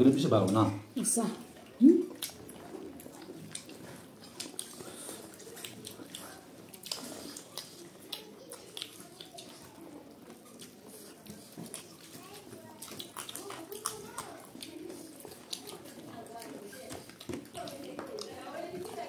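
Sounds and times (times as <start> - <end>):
chewing and lip smacking: 1.5 - 19.0
small wet clicks: 2.2 - 19.0.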